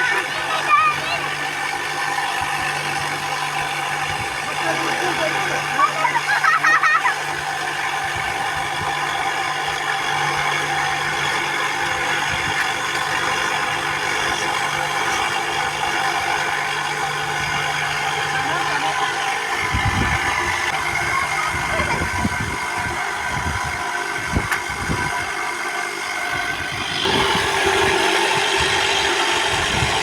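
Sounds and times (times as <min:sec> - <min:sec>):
motor humming steadily: 0:00.0 - 0:30.0.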